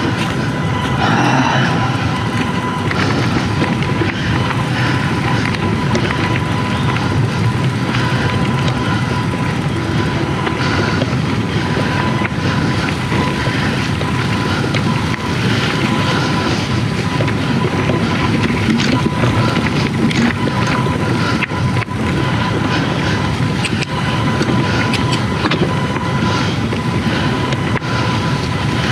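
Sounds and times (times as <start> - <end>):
bike tyres and frame rattling: 0.0 - 1.4, 2.2 - 28.9.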